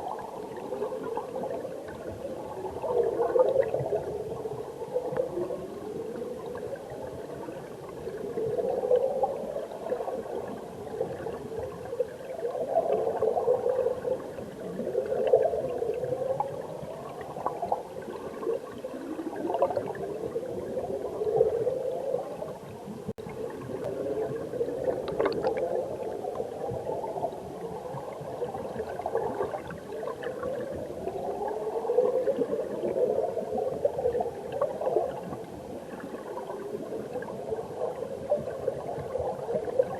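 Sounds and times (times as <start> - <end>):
underwater stream gurgling: 0.0 - 39.9.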